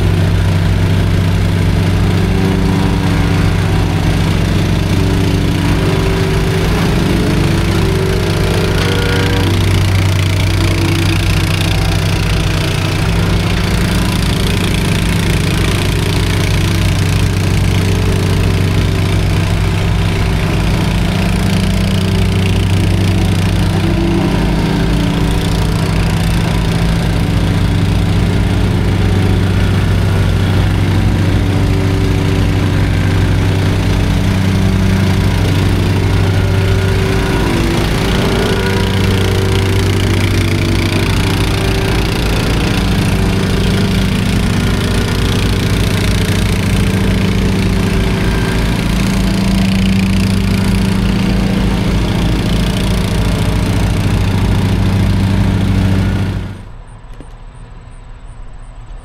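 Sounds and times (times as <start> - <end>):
machinery engine throbbing: 0.0 - 57.0.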